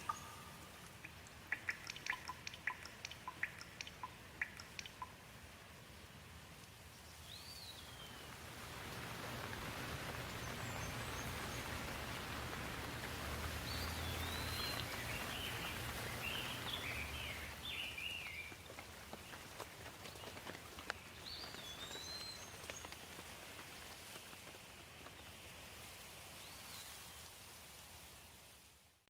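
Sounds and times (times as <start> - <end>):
songbirds chirping: 0.0 - 27.4
rain hiss: 0.0 - 29.0.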